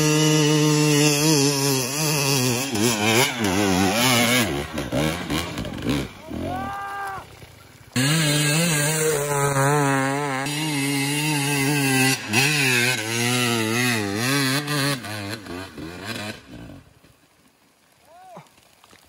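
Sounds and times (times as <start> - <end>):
dirt bike engine revving: 0.0 - 6.8, 7.9 - 17.0.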